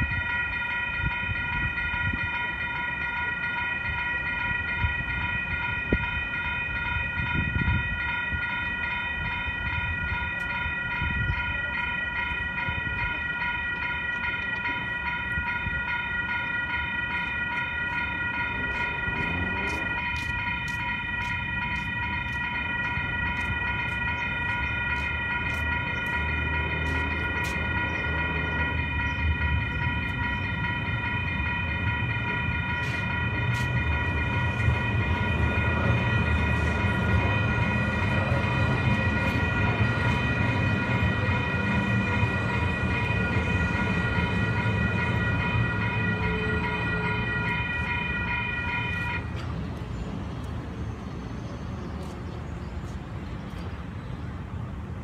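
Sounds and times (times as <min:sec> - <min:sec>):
crossing bells ringing: 0:00.0 - 0:55.0
light rail train rumbling past: 0:00.0 - 0:55.0.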